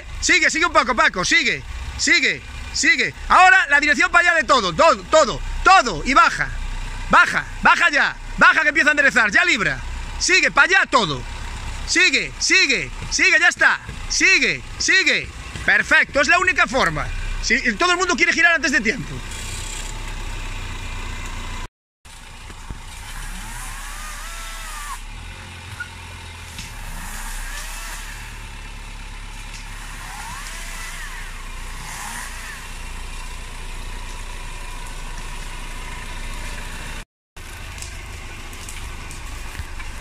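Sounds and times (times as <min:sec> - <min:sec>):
off-road engine running: 0:00.0 - 0:40.0.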